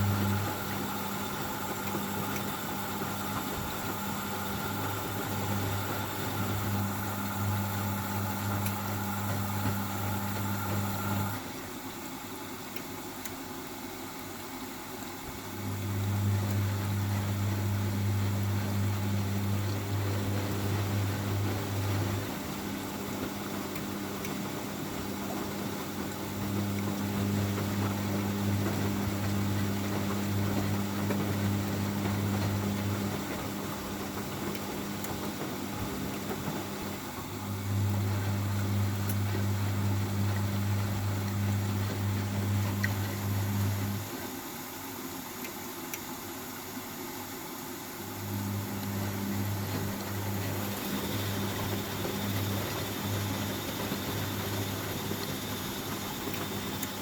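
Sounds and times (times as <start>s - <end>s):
low electric hum: 0.0s - 13.8s, 14.4s - 46.2s, 47.8s - 57.0s
washing machine and water noise: 0.0s - 57.0s.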